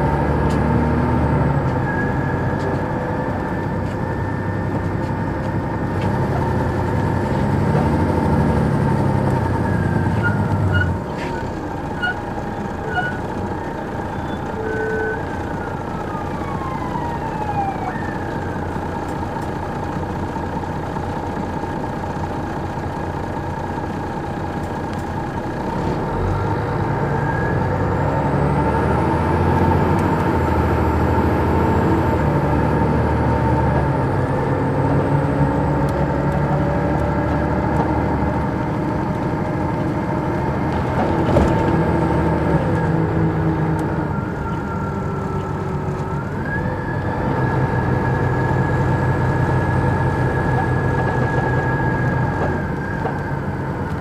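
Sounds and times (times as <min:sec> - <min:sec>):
rising engine whine: 0:00.0 - 0:20.1, 0:24.7 - 0:54.0
bus diesel engine running: 0:00.0 - 0:54.0.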